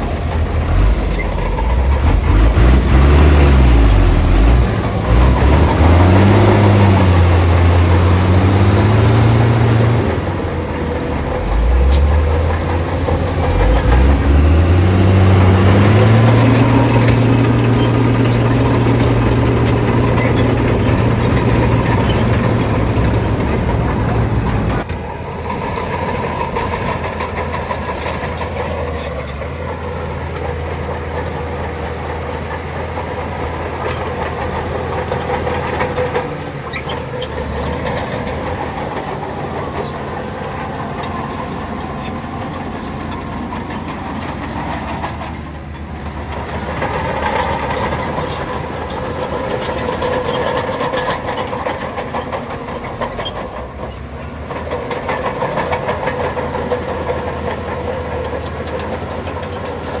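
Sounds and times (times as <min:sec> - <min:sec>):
bulldozer diesel engine: 0:00.0 - 1:00.0
steel tracks clattering: 0:00.0 - 1:00.0.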